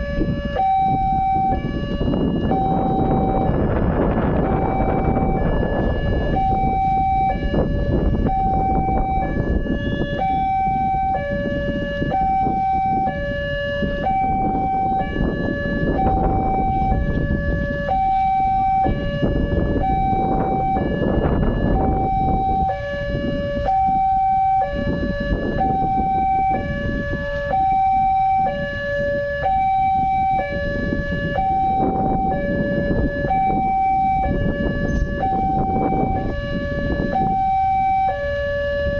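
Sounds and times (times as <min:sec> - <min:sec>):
two-tone crossing alarm chime: 0:00.0 - 0:38.9.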